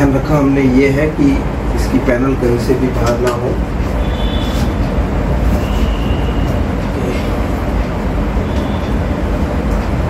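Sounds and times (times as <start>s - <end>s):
loud rumbling background noise: 0.0s - 10.0s.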